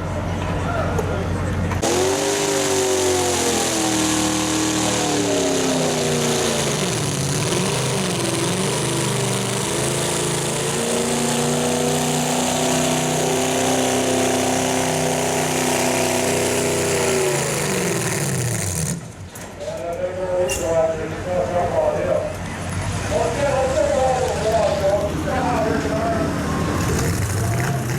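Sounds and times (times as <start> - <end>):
truck engine revving hard: 1.8 - 19.2, 22.4 - 27.9.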